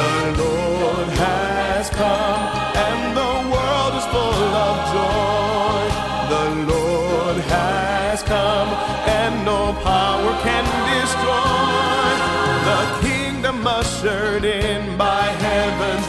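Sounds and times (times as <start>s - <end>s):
choir singing: 0.0s - 16.0s
orchestra bass notes: 0.0s - 16.0s
percussion hits: 0.0s - 16.0s.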